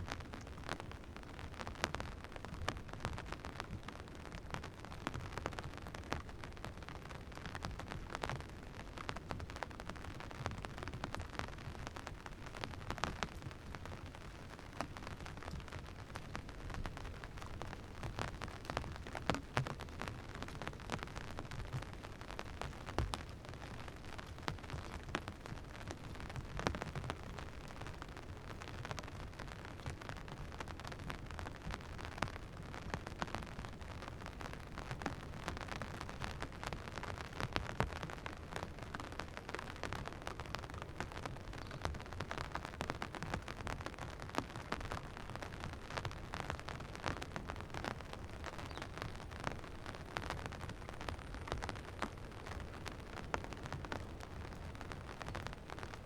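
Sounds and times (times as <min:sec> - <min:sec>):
steady rain with drop hits: 0:00.0 - 0:56.0.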